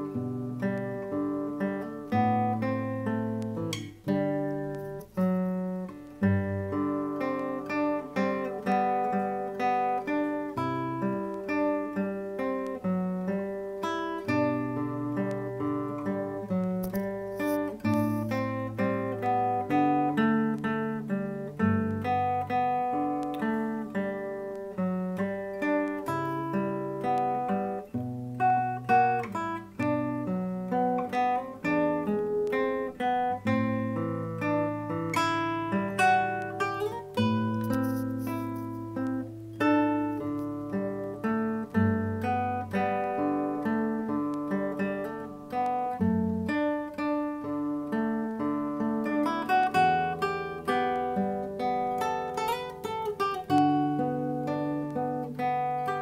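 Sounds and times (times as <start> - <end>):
fingerpicked classical guitar: 0.0 - 56.0.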